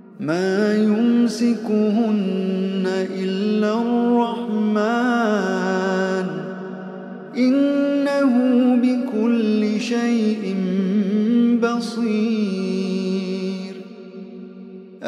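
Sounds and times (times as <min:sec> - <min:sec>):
man chanting melodically: 0:00.0 - 0:06.6, 0:07.3 - 0:14.3.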